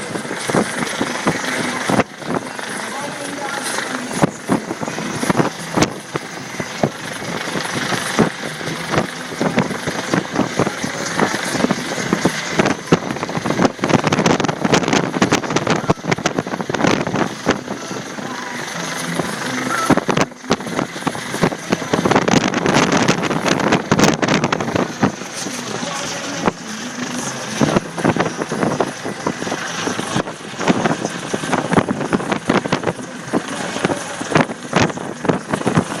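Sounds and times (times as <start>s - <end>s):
helicopter rotor and engine: 0.0s - 36.0s
wind buffeting microphone: 0.0s - 36.0s.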